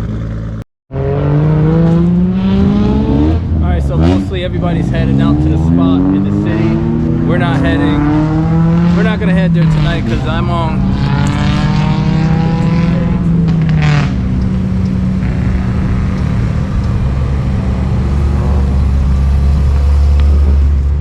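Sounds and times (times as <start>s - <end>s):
car engines exhaust drone: 0.0s - 21.0s.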